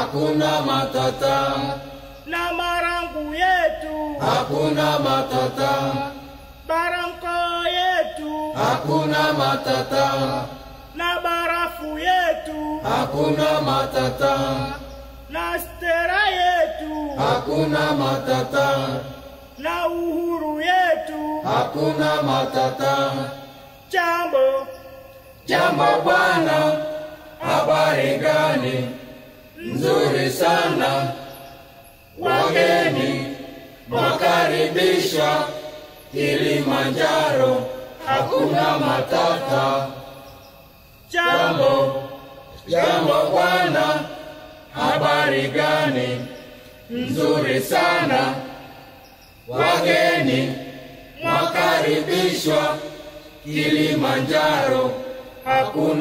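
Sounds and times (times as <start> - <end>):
group of voices chanting: 0.0 - 24.7, 25.4 - 31.3, 32.2 - 40.2, 41.1 - 48.8, 49.5 - 56.0.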